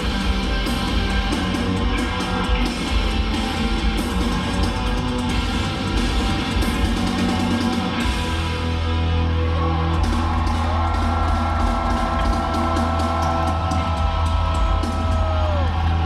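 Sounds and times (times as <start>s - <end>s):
distorted electric guitars: 0.0s - 16.0s
drums: 0.0s - 16.0s.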